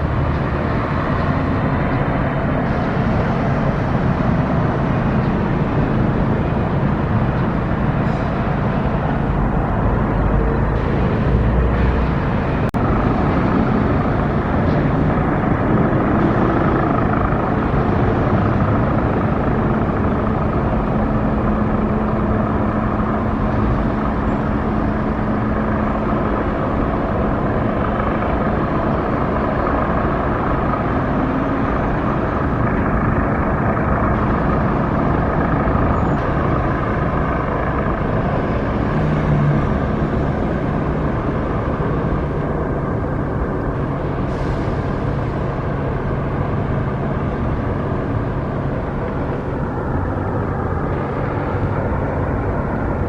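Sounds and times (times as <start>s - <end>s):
low engine hum: 0.0s - 53.0s
motor traffic and road noise: 0.0s - 53.0s.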